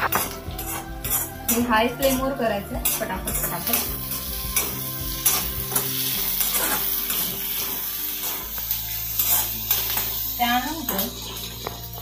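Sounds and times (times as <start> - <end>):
vegetables sizzling in a wok: 0.0 - 12.0
tongs scraping and clinking on pan: 0.1 - 12.0.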